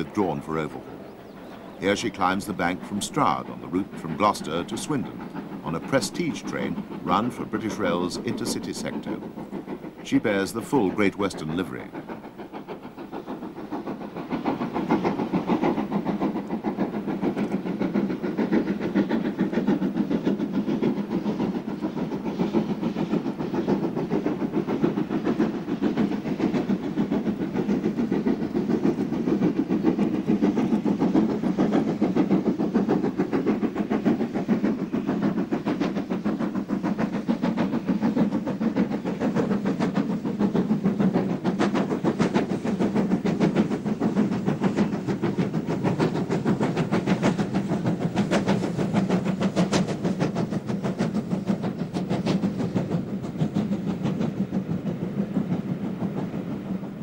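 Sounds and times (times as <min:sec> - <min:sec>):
steam locomotive exhaust beat: 0:00.0 - 0:57.0.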